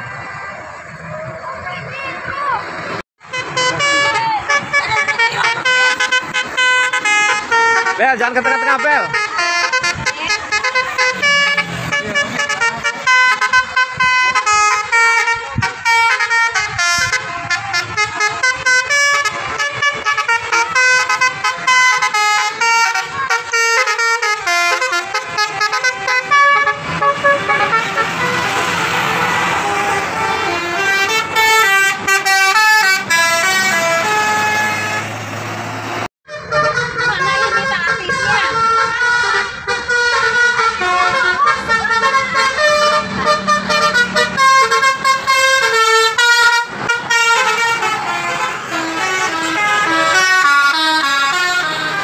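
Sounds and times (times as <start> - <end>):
bus air horns playing tunes: 3.2 - 35.5, 36.3 - 52.0.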